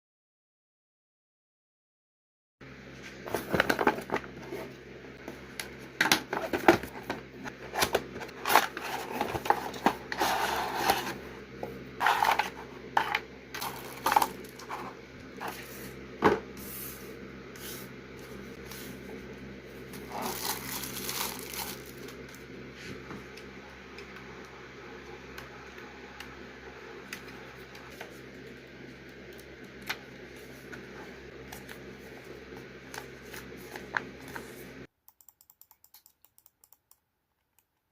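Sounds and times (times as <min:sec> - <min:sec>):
steady low hum: 0:02.6 - 0:34.9.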